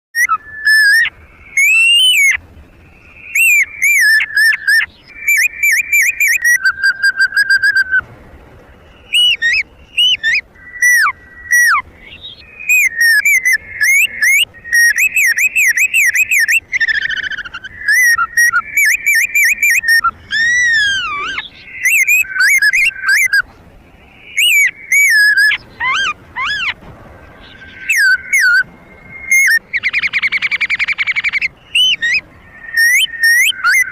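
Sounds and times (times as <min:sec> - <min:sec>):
whistled bird-like calls: 0:00.2 - 0:08.0, 0:08.9 - 0:33.9.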